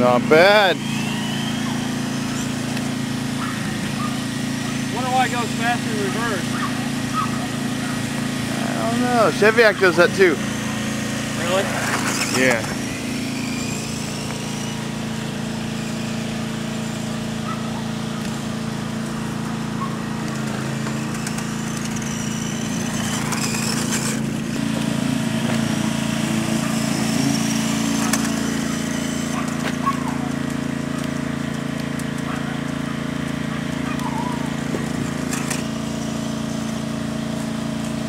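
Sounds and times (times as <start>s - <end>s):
steady low hum: 0.0s - 37.9s
electric motor whining: 0.0s - 38.0s.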